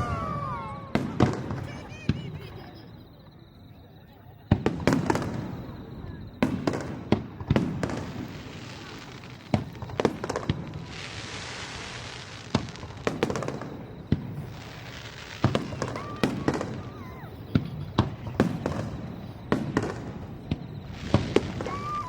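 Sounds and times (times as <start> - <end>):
fireworks bursting: 0.0 - 22.0
hissing crackle of fireworks: 0.0 - 22.0.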